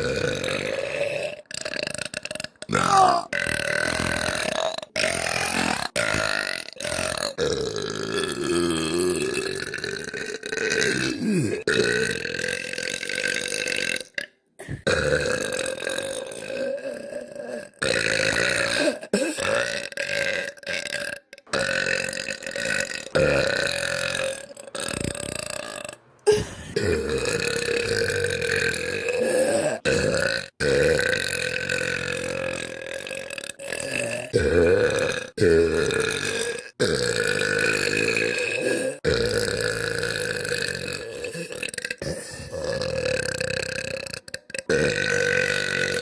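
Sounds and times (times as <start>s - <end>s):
girl burping: 0.0s - 4.4s, 7.4s - 11.8s, 14.2s - 37.4s, 40.4s - 46.0s.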